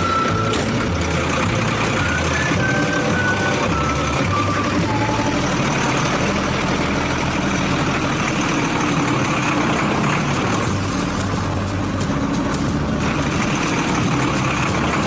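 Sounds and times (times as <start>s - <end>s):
heavy vehicle engine humming: 0.0s - 15.0s.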